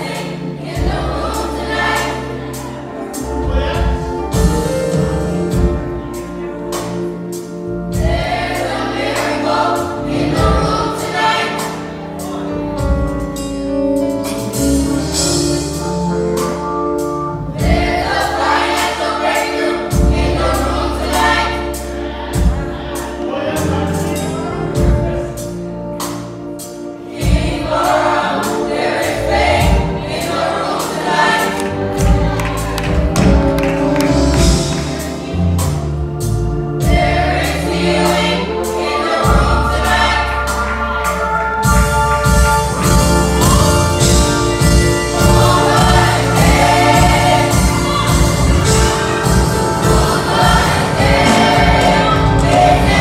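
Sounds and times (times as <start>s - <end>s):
children's choir singing gospel: 0.0s - 53.0s
live band with drums and bass: 0.0s - 53.0s.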